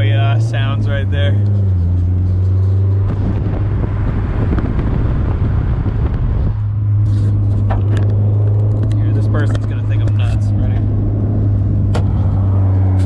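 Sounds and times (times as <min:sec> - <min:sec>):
car engine droning: 0:00.0 - 0:13.0
wind on microphone: 0:02.3 - 0:13.0.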